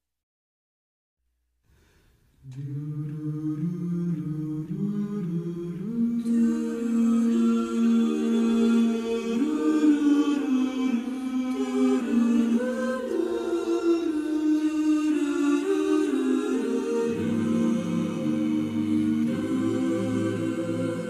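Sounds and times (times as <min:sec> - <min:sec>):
wordless choir singing: 0:02.4 - 0:21.0.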